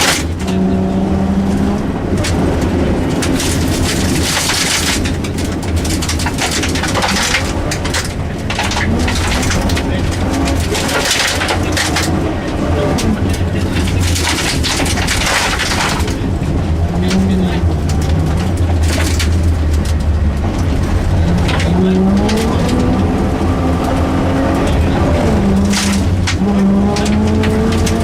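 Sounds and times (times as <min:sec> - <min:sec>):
rally car engine revving: 0:00.0 - 0:28.0
road clatter under car: 0:00.0 - 0:28.0.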